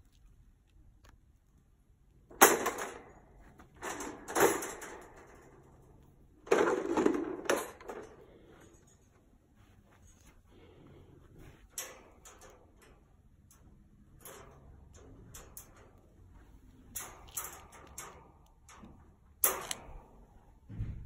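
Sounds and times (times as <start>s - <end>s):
wire crate panels rattling: 2.2s - 9.5s, 11.3s - 21.0s.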